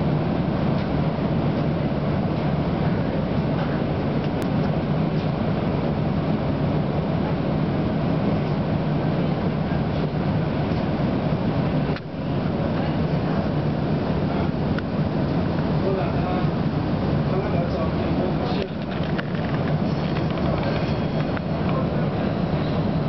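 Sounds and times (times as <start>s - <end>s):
streetcar cabin hum and hiss: 0.0s - 23.0s.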